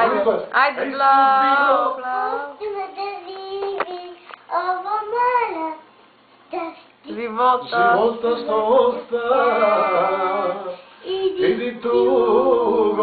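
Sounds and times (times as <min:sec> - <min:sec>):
girl singing: 0:01.9 - 0:13.0.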